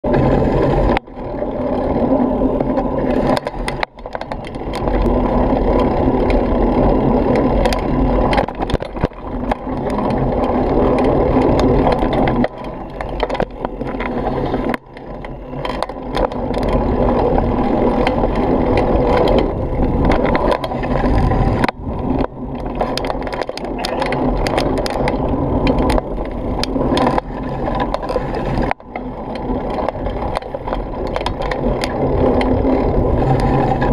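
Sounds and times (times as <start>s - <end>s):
tyres rumbling on dirt: 0.0s - 33.9s
bike knocks and rattles: 0.1s - 33.9s.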